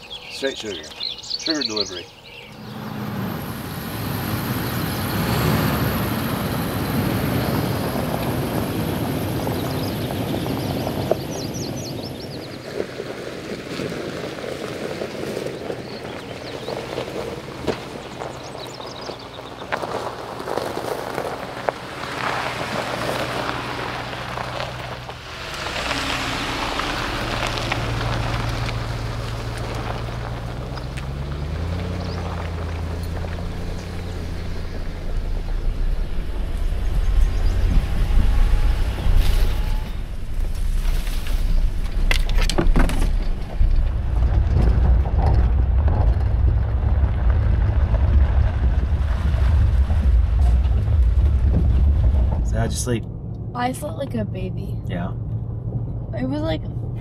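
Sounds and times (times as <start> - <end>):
car driving rumble: 0.0 - 57.0
road and wind noise: 0.0 - 57.0
vehicle engine drone: 0.0 - 57.0.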